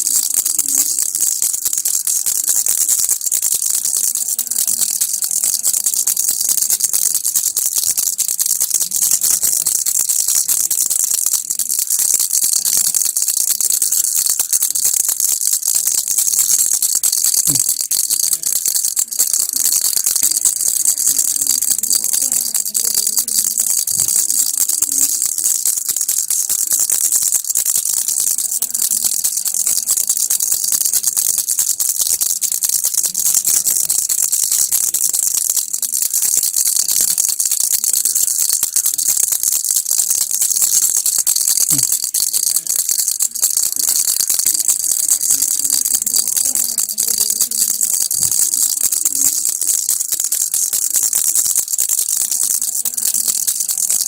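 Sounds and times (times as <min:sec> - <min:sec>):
baby rattle shaking: 0:00.0 - 0:54.0.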